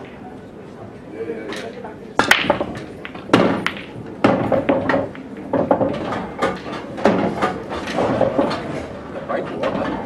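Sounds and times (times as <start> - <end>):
pool balls clacking: 0.0 - 0.4, 1.6 - 10.0.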